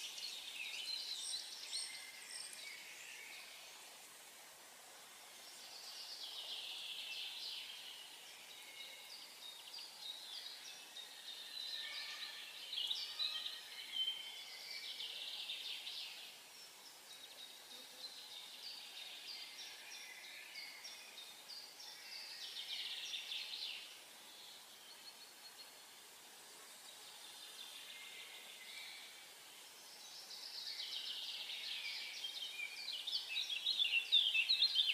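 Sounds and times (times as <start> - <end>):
faint steady air hiss: 0.0 - 34.9
songbirds chirping and trilling: 0.0 - 34.9.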